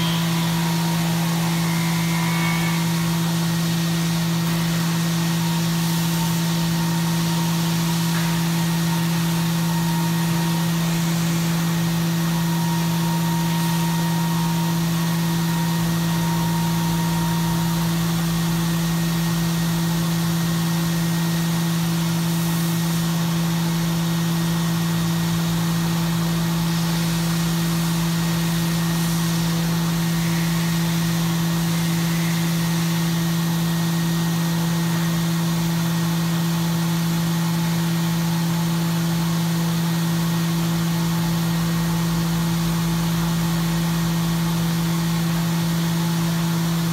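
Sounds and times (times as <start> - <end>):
machining hiss: 0.0 - 45.8
milling machine spindle hum: 0.0 - 46.9.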